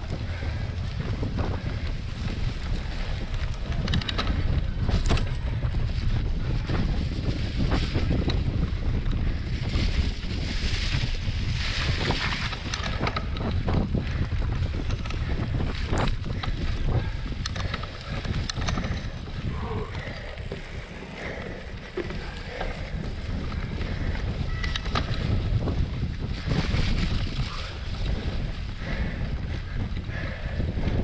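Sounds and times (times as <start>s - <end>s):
bike clicks and rattles: 0.0s - 31.0s
wind buffeting microphone: 0.0s - 31.0s.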